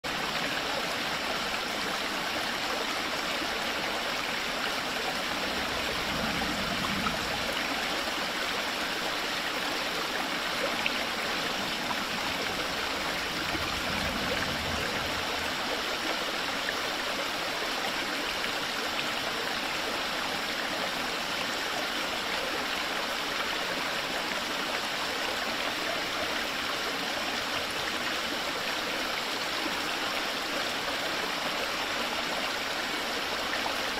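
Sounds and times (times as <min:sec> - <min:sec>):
stream flowing and gurgling: 0:00.0 - 0:33.9.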